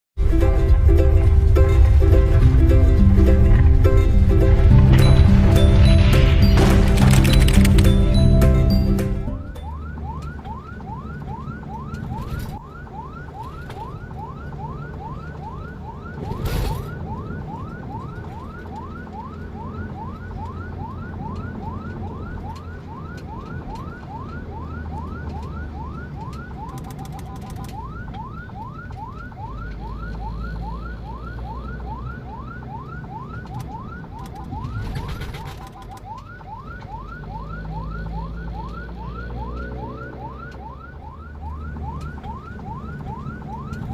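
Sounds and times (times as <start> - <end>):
engine and road rumble: 0.2 - 43.9
ambulance siren yelping: 1.2 - 43.9.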